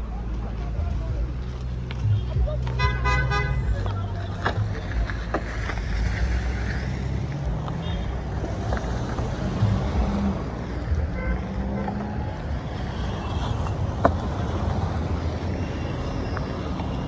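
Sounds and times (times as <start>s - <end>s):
vehicle engines and road traffic: 0.0s - 17.0s.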